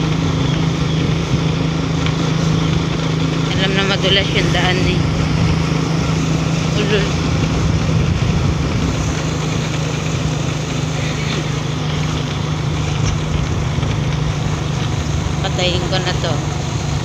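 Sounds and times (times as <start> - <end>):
road noise: 0.0 - 17.0
small vehicle engine running: 0.0 - 17.0.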